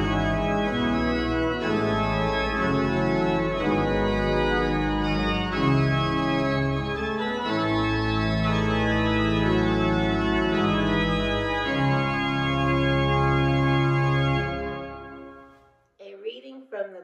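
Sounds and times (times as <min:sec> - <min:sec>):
church organ playing slow chords: 0:00.0 - 0:15.5.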